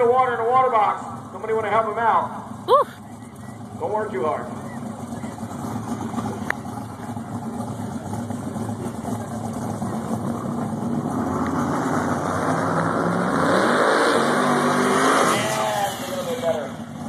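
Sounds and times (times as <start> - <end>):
drag-race car engines rumbling: 0.0 - 17.0.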